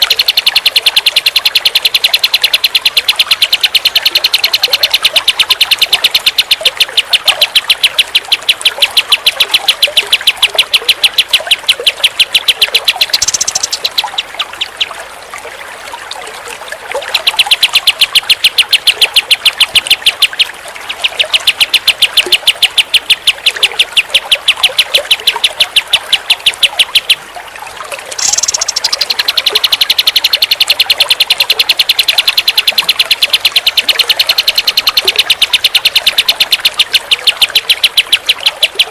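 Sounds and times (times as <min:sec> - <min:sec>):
bird singing rapid trill: 0:00.0 - 0:15.0, 0:16.9 - 0:27.3, 0:28.1 - 0:38.9.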